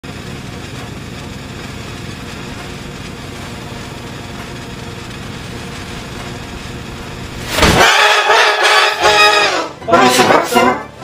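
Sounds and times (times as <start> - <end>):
harsh noisy engine-like drone: 0.0 - 11.0.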